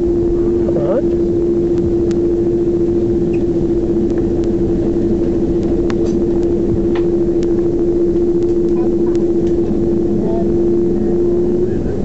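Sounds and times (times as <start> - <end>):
jet engines humming: 0.0 - 12.0
low rumble: 0.0 - 12.0.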